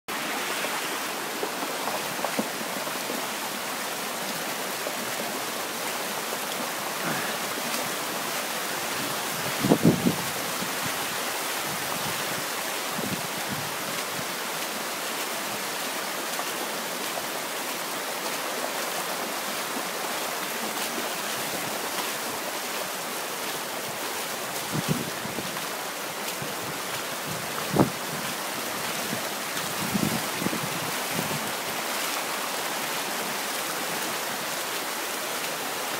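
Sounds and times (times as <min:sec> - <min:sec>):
steady rain hissing: 0:00.1 - 0:35.9.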